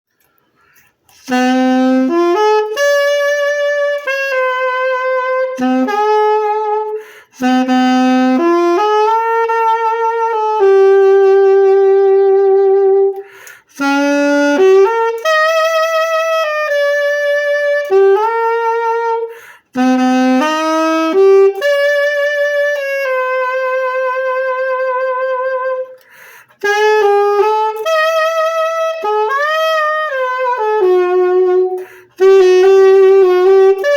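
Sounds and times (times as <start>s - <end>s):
alto saxophone solo melody: 0.6s - 33.9s.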